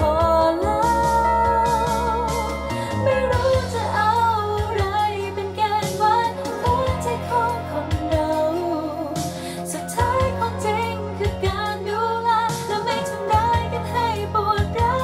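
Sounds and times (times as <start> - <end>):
bass: 0.0 - 15.0
woman singing: 0.0 - 15.0.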